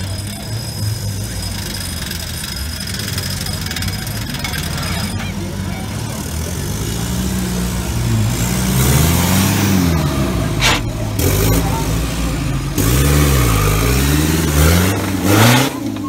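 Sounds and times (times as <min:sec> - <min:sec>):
buggy engine revving hard: 0:00.0 - 0:16.0.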